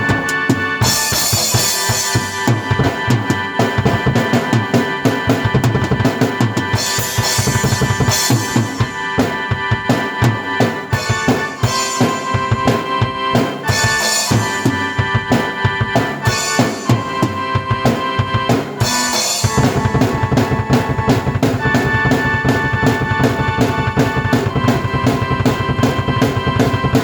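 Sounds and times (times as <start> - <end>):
rock drum beat: 0.0 - 27.0
sustained keyboard chords: 0.0 - 27.0.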